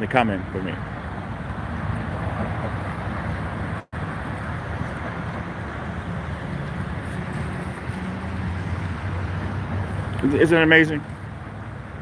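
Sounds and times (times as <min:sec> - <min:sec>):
rumble of vehicles: 0:00.0 - 0:12.0.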